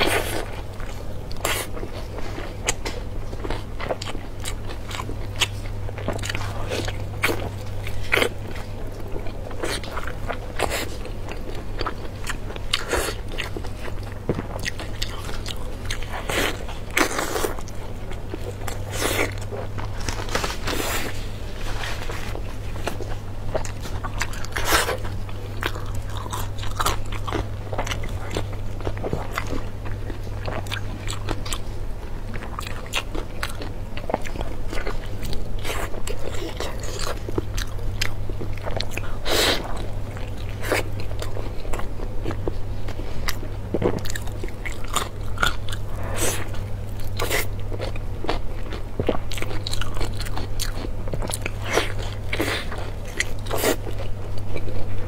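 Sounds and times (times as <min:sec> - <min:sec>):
chewing with wet smacks: 0:00.0 - 0:20.4, 0:22.3 - 0:55.0.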